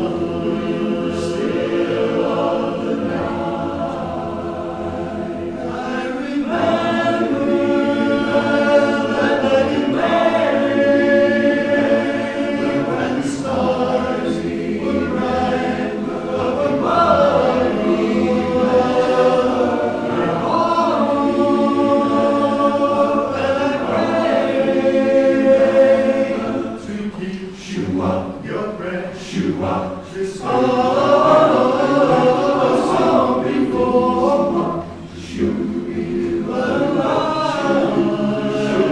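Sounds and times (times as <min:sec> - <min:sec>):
barbershop chorus singing: 0:00.0 - 0:38.9.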